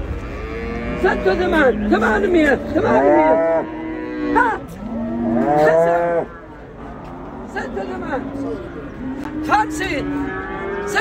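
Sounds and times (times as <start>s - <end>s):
cattle mooing: 0.1s - 11.0s.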